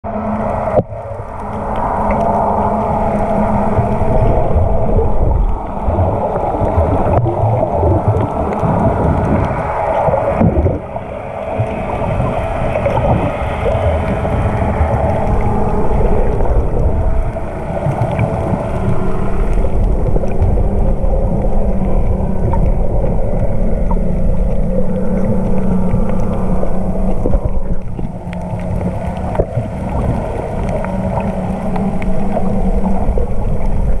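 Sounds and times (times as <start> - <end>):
constant low hum: 0.0 - 34.0
underwater churning rumble: 0.0 - 34.0.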